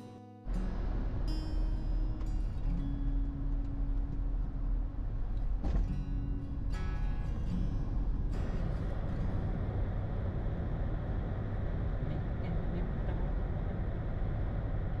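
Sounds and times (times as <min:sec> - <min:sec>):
road and engine rumble in car: 0:00.5 - 0:15.0.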